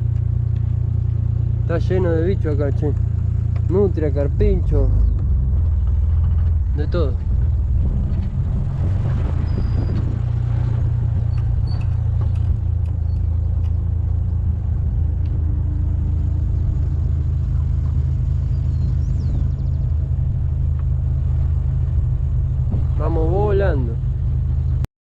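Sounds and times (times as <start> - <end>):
vehicle engine rumble: 0.0 - 24.9.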